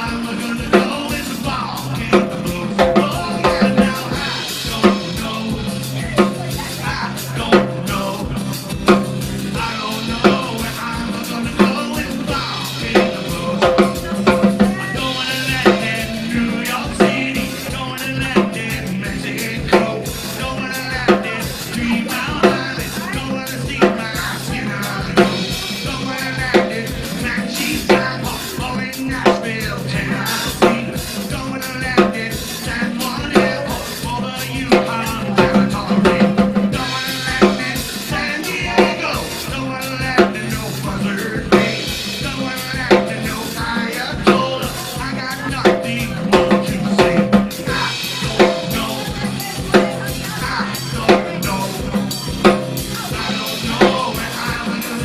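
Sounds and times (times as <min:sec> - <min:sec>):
acoustic guitar: 0:00.0 - 0:55.0
drum kit playing beat: 0:00.0 - 0:55.0.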